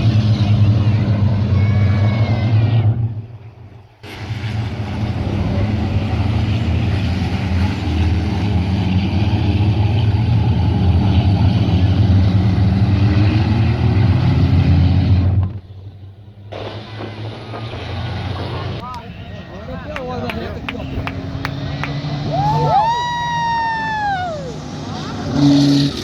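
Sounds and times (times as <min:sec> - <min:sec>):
diesel truck engines droning: 0:00.0 - 0:26.0.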